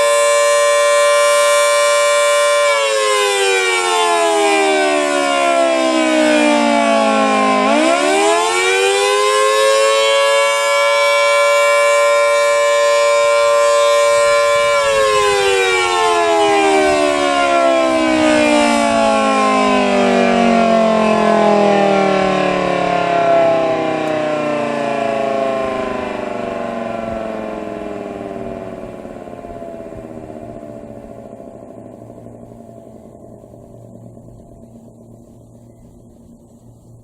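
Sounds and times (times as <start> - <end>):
tornado siren wailing: 0.0 - 37.0.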